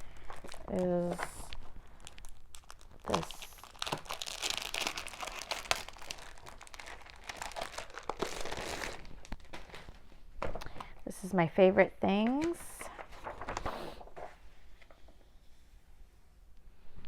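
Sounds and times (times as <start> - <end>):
paper and packaging crinkling: 0.0 - 10.9, 12.2 - 15.2.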